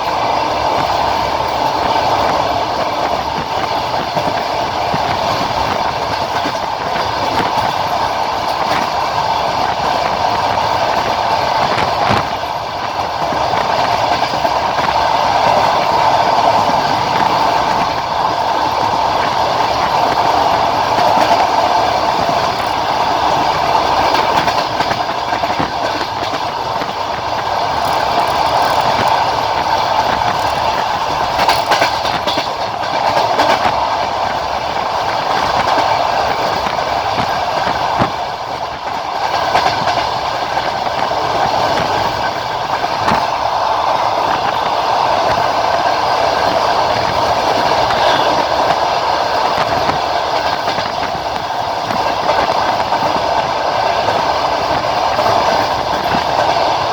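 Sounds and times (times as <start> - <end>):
train wheels rumbling on rail: 0.0 - 56.9
wheels clicking over track: 0.0 - 56.9.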